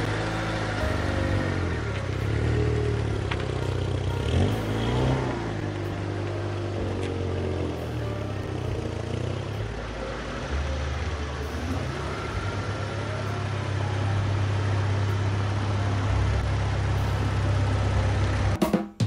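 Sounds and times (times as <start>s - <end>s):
car engine running at low revs: 0.0s - 18.6s.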